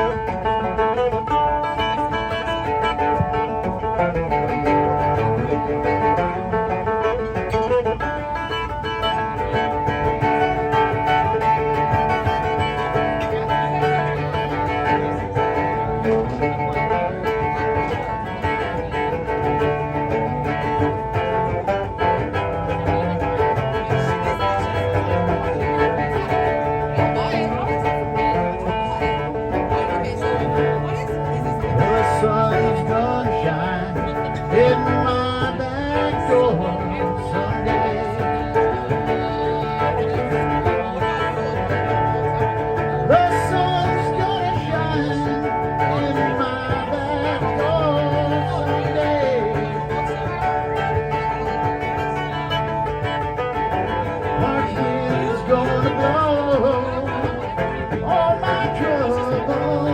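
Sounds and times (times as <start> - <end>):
country-rock band playing: 0.0 - 59.9.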